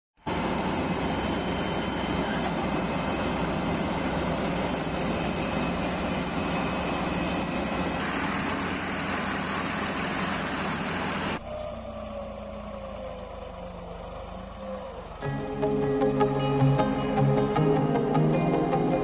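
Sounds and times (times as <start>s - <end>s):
combine harvester running: 0.2s - 19.0s.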